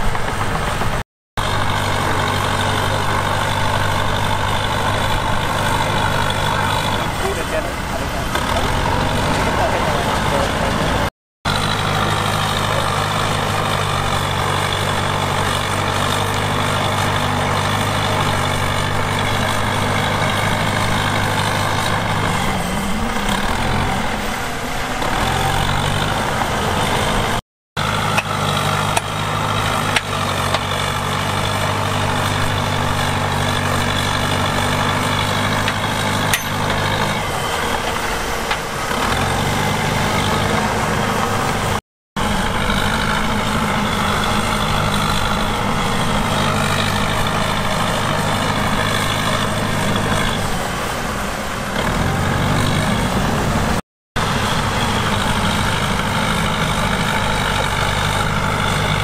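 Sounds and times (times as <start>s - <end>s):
diesel machine engine running: 0.0s - 59.0s.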